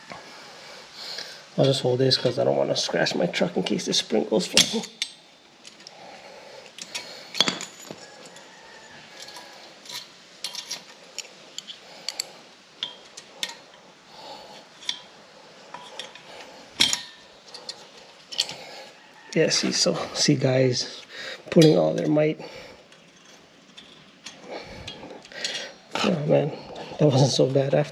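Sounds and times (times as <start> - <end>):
metal springs clinking and scraping: 1.5 - 6.0, 6.6 - 27.9.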